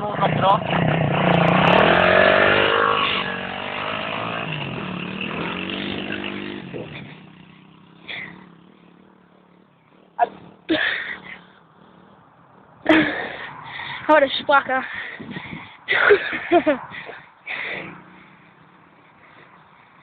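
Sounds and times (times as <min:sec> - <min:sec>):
pit bike engine revving: 0:00.0 - 0:20.0.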